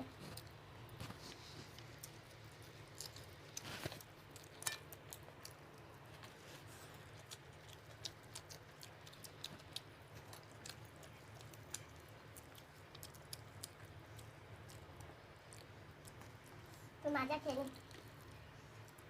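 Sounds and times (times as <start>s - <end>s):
faint chewing: 0.0s - 19.0s.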